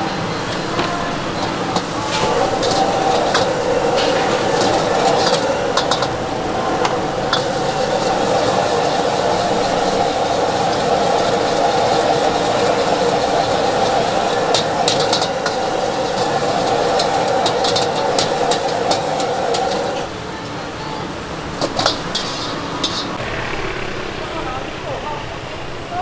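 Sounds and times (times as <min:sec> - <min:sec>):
food sizzling in a pan: 0:00.0 - 0:20.1, 0:21.2 - 0:23.2.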